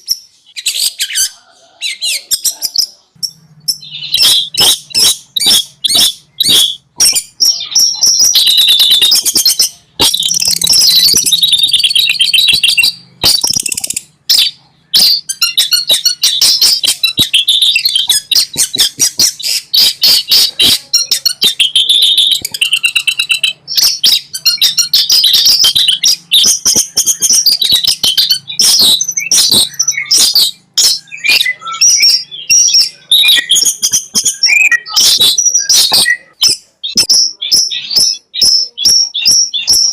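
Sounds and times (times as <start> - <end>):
shrike singing chattering notes: 3.2 - 39.6.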